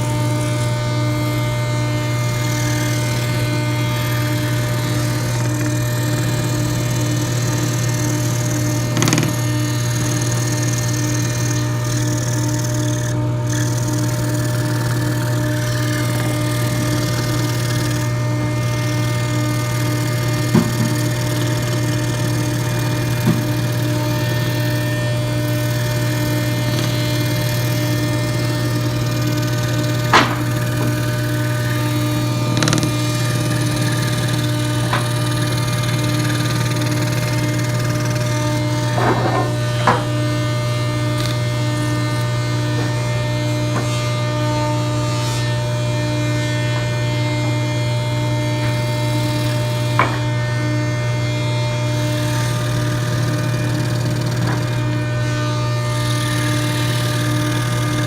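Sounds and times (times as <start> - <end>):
scroll saw cutting wood: 0.0 - 58.0.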